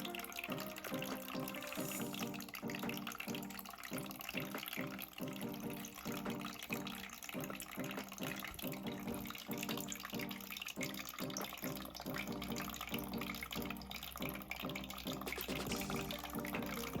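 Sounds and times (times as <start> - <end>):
background music with steady pulse: 0.0 - 17.0
water trickling and dripping: 0.0 - 17.0.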